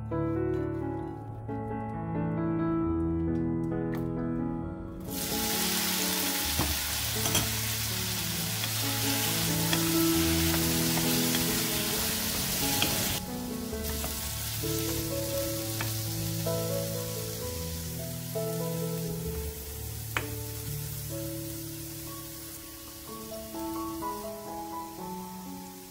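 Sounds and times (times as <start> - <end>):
potatoes sizzling in hot oil: 5.1 - 25.9.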